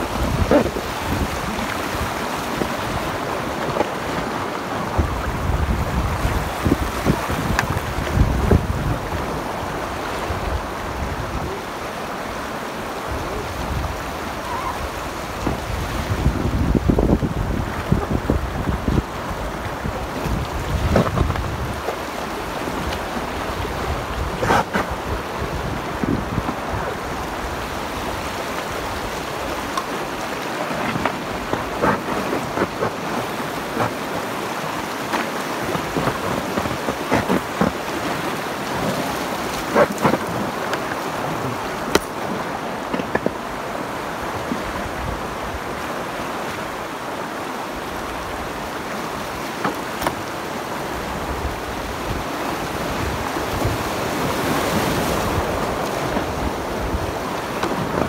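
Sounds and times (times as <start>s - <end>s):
water rushing over boulders: 0.0s - 58.0s.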